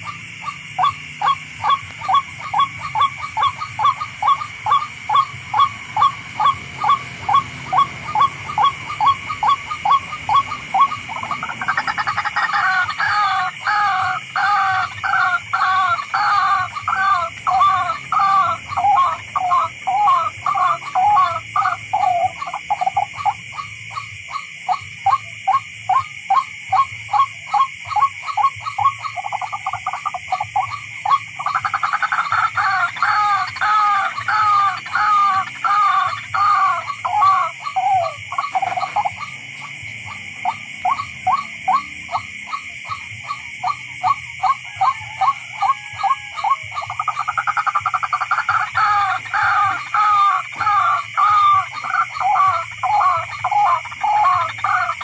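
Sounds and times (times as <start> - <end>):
rail bird rasping calls: 0.0 - 55.0.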